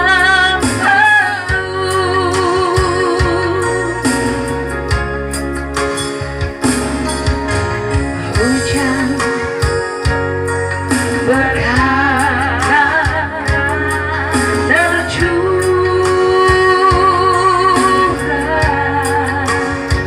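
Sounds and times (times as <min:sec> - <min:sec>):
instrumental backing with beat: 0:00.0 - 0:20.0.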